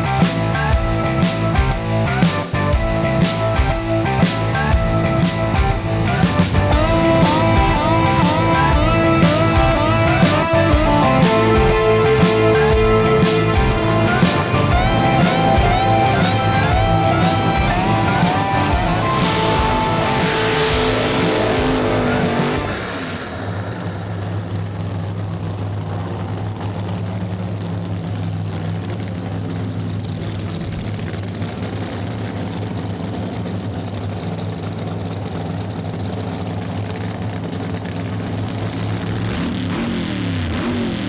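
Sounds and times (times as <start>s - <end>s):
race car engine idling and revving: 0.0s - 41.0s.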